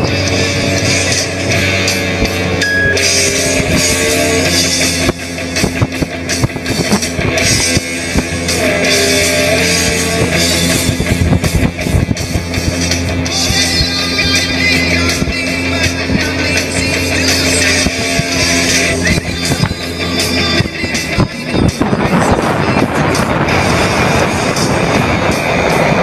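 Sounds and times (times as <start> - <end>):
boat engine drone: 0.0 - 26.0
rock music with singing: 0.0 - 26.0.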